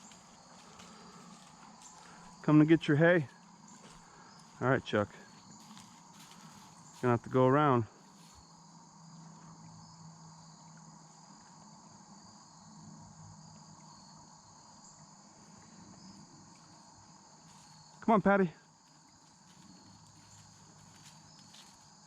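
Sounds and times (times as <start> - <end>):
crickets and insects chirping: 0.0 - 22.0.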